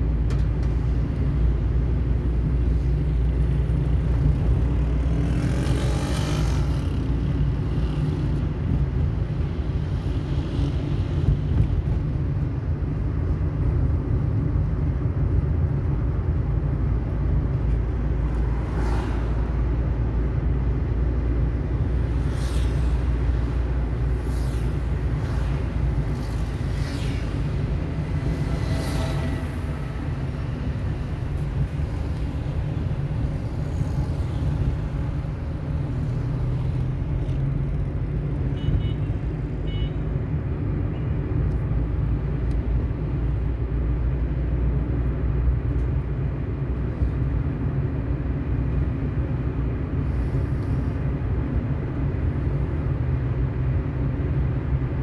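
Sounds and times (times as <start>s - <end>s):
car driving low rumble: 0.0s - 55.0s
light surrounding traffic: 0.0s - 55.0s.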